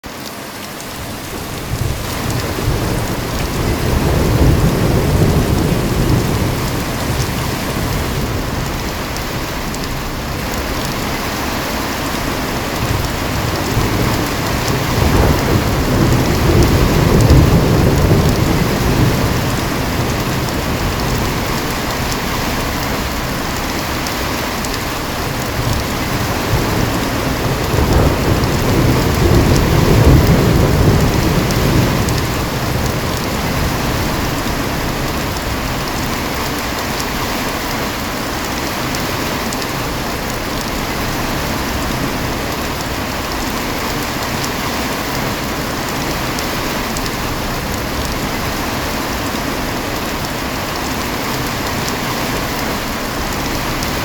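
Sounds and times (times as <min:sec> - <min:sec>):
heavy rain falling: 0:00.0 - 0:54.0
low rolling thunder: 0:00.9 - 0:54.0.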